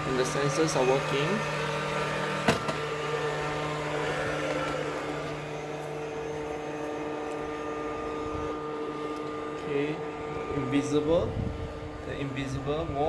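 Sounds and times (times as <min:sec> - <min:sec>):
robot vacuum cleaner humming: 0:00.0 - 0:13.0.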